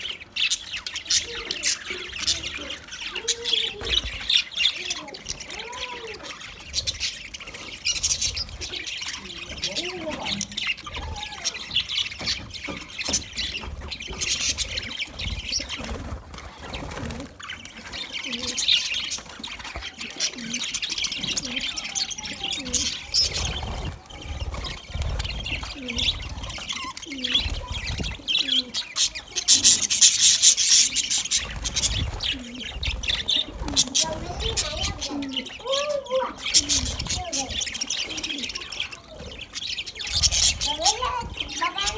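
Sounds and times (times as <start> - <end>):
budgerigars chirping: 0.0 - 41.9.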